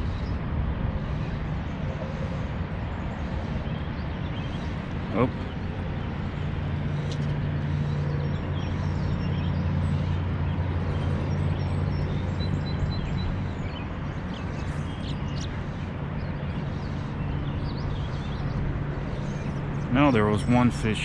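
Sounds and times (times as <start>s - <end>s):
constant rushing background: 0.0s - 21.0s
steady low hum: 0.0s - 21.0s.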